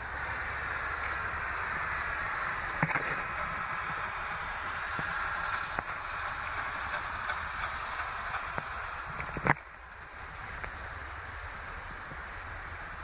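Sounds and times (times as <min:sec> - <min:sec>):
wind and blowing snow hissing: 0:00.0 - 0:13.0.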